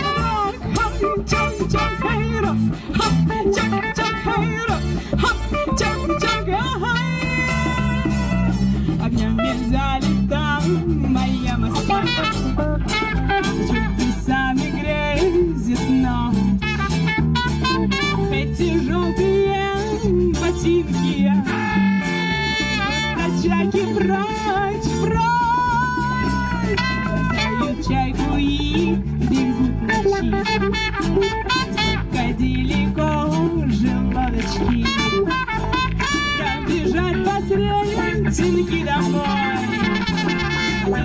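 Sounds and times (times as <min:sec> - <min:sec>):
bass line: 0:00.0 - 0:41.0
guitars: 0:00.0 - 0:41.0.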